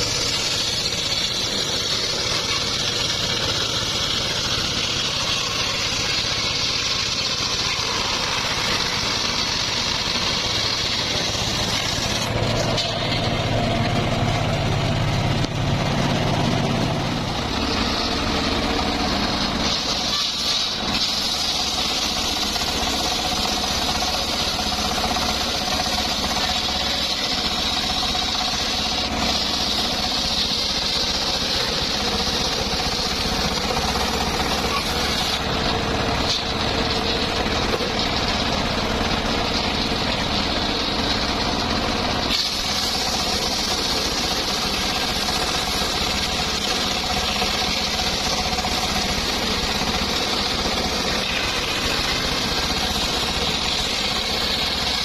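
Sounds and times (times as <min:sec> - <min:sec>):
engine drone: 0:00.0 - 0:55.0
spinning saw hiss: 0:00.0 - 0:55.0.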